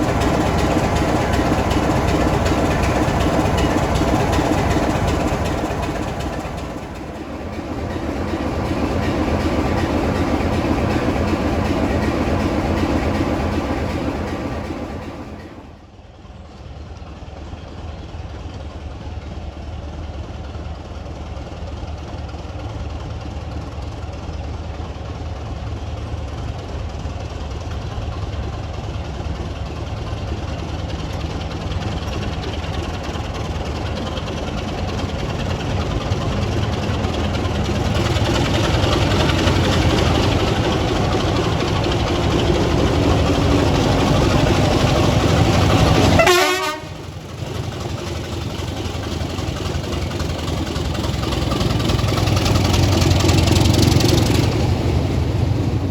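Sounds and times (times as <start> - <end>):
diesel locomotive engine droning: 0.0 - 55.9.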